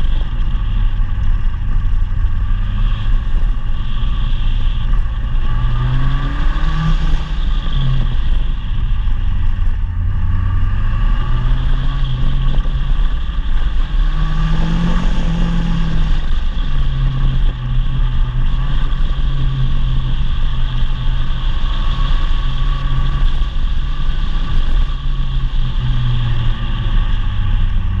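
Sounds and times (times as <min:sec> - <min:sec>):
rally car engine running: 0:00.0 - 0:28.0
tyre and road noise: 0:00.0 - 0:28.0.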